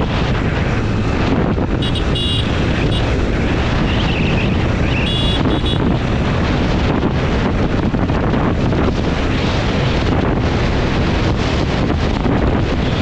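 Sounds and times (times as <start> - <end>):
motorcycle engine: 0.0 - 13.0
wind buffeting microphone: 0.0 - 13.0.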